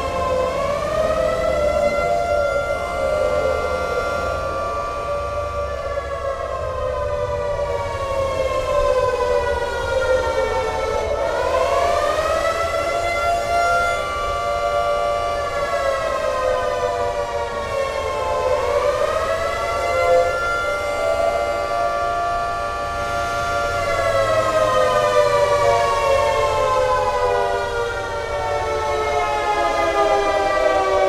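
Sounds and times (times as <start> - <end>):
air raid sirens wailing: 0.0 - 31.0.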